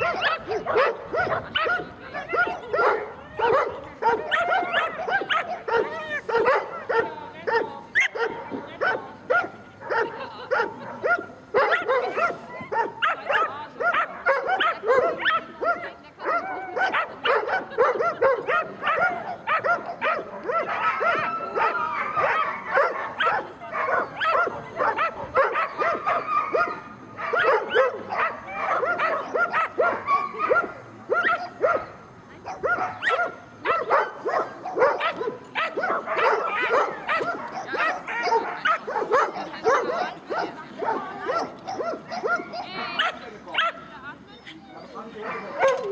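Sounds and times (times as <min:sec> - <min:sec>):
dogs barking and yipping: 0:00.0 - 0:45.9.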